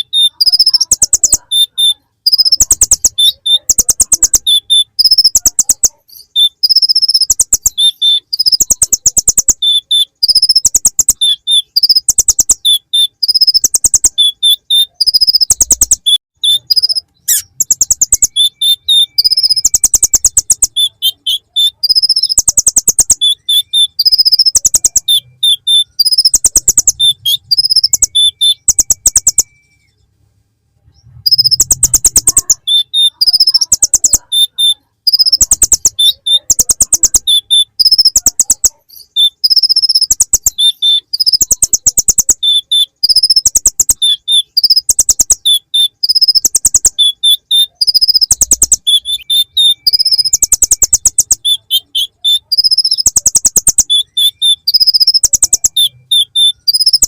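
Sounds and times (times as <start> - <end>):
sunbird singing buzzy trills: 0.0 - 30.0, 30.8 - 57.0.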